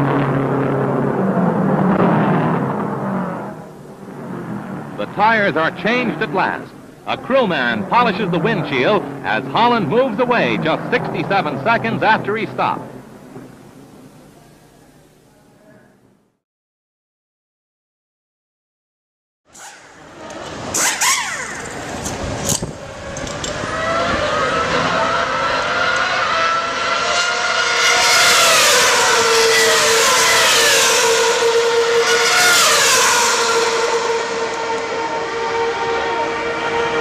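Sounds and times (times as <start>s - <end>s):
race car engines at high revs: 0.0s - 14.3s, 19.5s - 37.0s.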